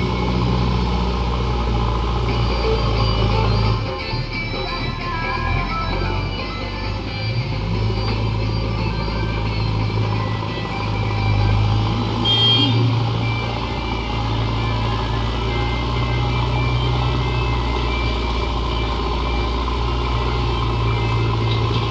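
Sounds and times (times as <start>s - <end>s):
heavy diesel engine running: 0.0s - 21.9s
high beep: 2.3s - 21.9s.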